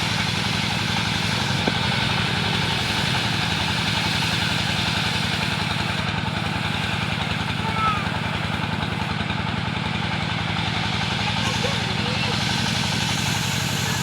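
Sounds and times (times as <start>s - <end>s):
sawing machine engine running: 0.0s - 14.0s.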